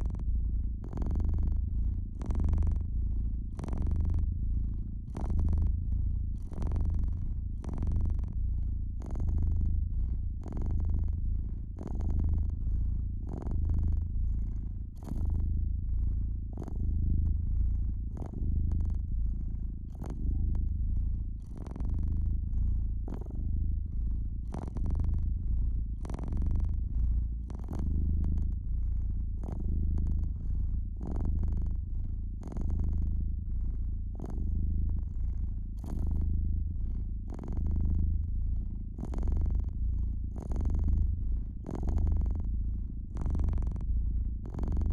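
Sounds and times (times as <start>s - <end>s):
cat purring: 0.0s - 44.9s.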